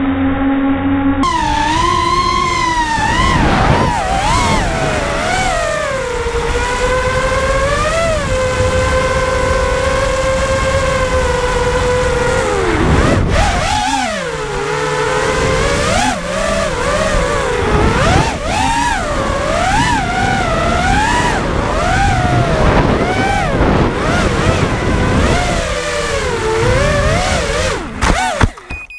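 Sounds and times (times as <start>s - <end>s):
drone motors whining: 0.0s - 28.9s
wind noise: 1.2s - 28.6s.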